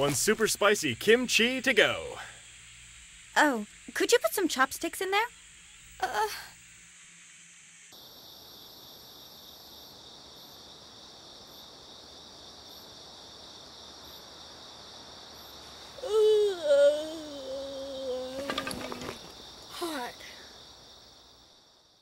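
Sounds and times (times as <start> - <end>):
bright cricket chirp: 0.0 - 22.0
crickets chirring: 0.0 - 22.0.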